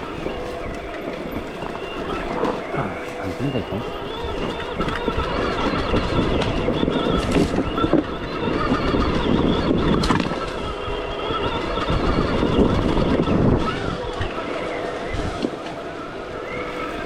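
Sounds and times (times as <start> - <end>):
continuous low rumble: 0.0 - 17.0
electric motor whine: 0.0 - 17.0
wind on microphone: 0.0 - 17.0.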